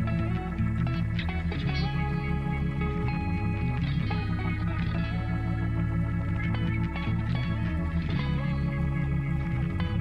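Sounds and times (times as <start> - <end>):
looped guitar instrumental: 0.0 - 10.0
low tone pulsing rapidly: 0.0 - 10.0.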